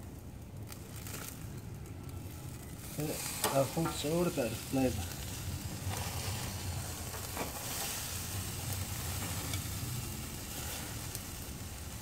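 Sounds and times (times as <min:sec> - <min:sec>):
faint crackles: 0:00.0 - 0:12.0
fish sizzling on grill: 0:00.0 - 0:12.0
low steady rumble: 0:00.0 - 0:12.0.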